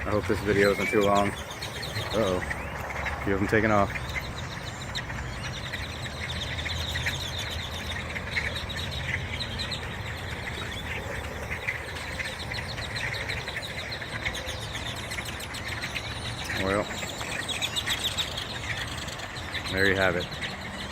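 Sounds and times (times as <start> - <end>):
flock of birds chattering: 0.0 - 20.9.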